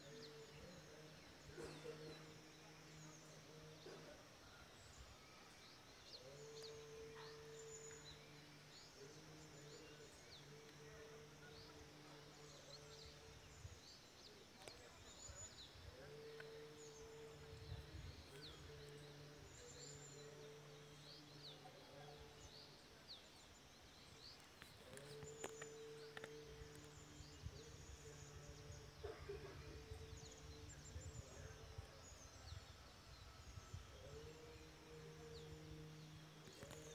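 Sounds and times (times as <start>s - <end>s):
faint low monotone chanting: 0.0s - 36.9s
small birds chirping: 0.0s - 36.9s.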